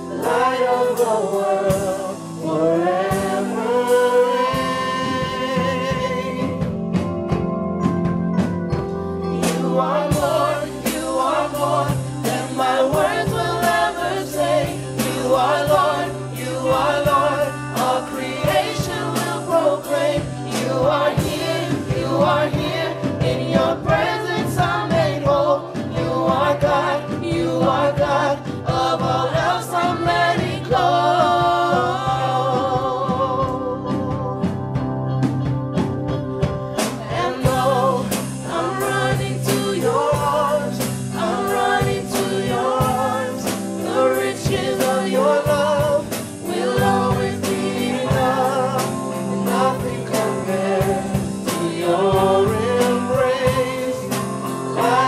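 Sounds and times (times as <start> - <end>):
young voices singing together: 0.0 - 6.8, 9.2 - 34.6, 36.8 - 55.0
drum kit beat: 0.0 - 55.0
live band playing: 0.0 - 55.0.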